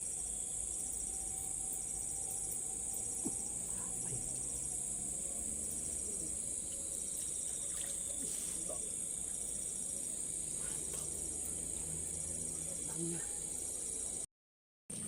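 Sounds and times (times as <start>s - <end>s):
crickets chorus: 0.0s - 14.3s.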